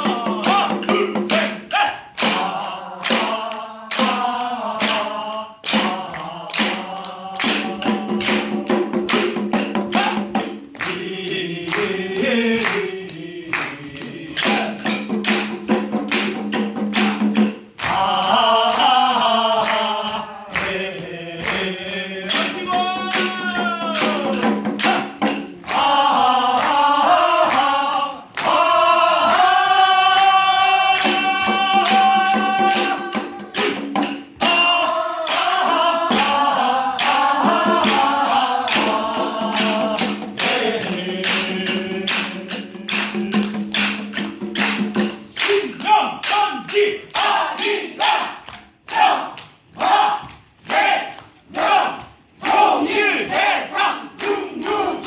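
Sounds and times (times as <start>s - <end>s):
group of people singing: 0.0s - 55.0s.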